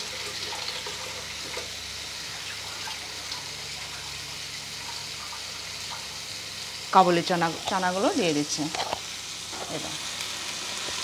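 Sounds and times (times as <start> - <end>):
vegetables sizzling in a pot: 0.0 - 11.0.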